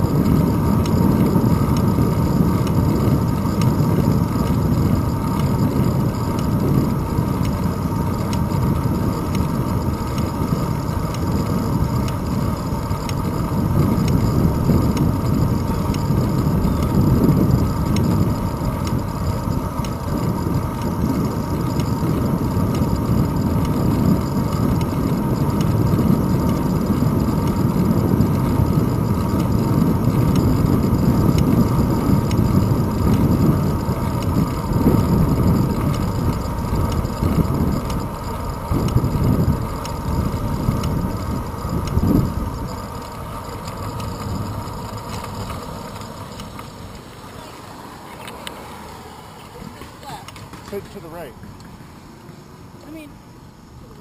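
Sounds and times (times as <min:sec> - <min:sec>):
faint steady whine: 0:00.0 - 0:54.0
wind and road rumble: 0:00.0 - 0:54.0.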